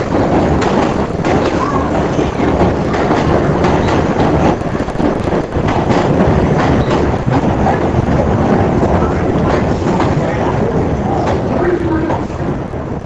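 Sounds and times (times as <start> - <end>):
subway train passing: 0.0 - 13.0
wind buffeting microphone: 0.0 - 13.0.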